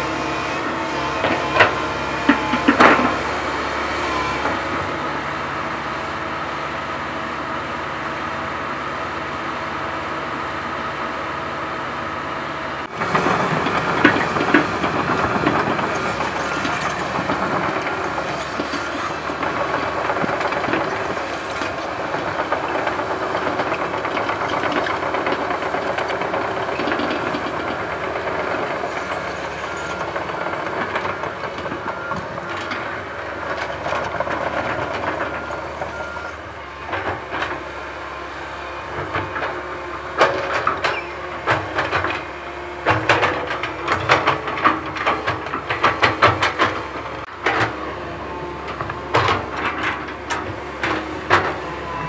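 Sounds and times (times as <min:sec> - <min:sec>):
excavator clanking in soil: 0:00.0 - 0:05.0, 0:12.9 - 0:52.0
excavator diesel engine running: 0:00.0 - 0:52.0.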